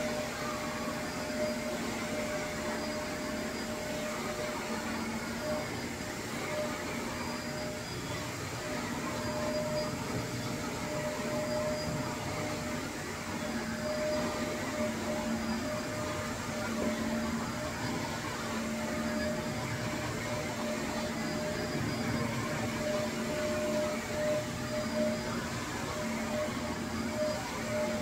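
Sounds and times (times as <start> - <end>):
vacuum cleaner on carpet: 0.0 - 28.0.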